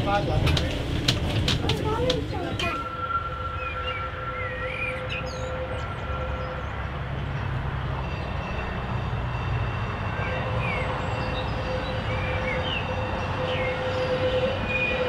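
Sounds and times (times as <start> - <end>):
tram rumbling: 0.0 - 15.0.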